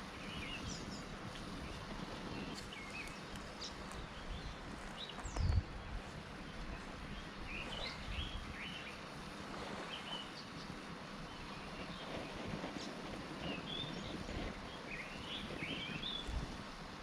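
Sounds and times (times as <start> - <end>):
birds chirping: 0.0 - 16.8
steady outdoor rush: 0.0 - 17.0.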